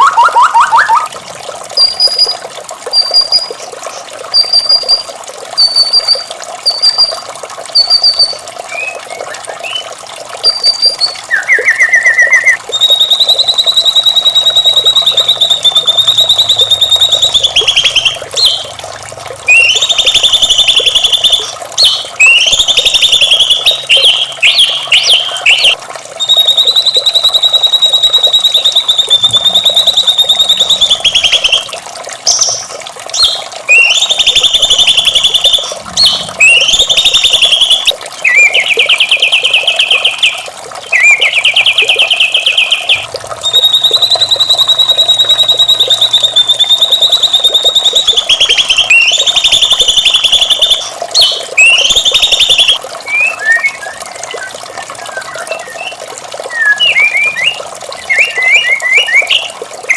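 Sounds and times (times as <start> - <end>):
bird singing whistles and trills: 0.0 - 1.1, 1.8 - 3.7, 4.3 - 18.7, 19.5 - 59.9
bird chirps: 7.8 - 18.7, 19.5 - 31.7, 32.3 - 59.5.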